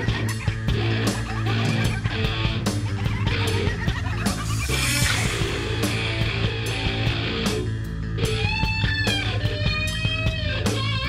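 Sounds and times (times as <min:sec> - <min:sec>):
electric guitar: 0:00.0 - 0:11.0.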